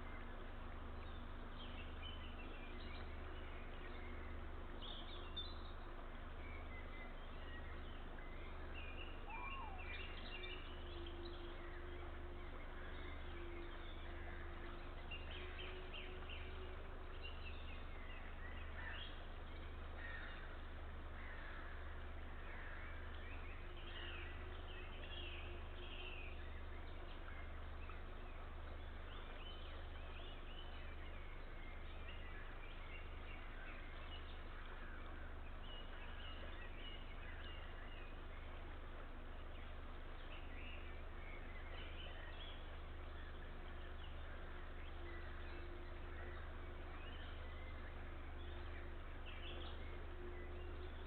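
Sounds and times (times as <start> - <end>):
small birds chirping: 0.0 - 51.0
steady low hum: 0.0 - 51.0.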